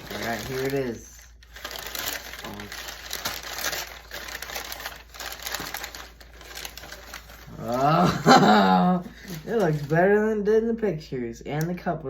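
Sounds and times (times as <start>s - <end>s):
packaging rustling and crinkling: 0.0s - 10.1s.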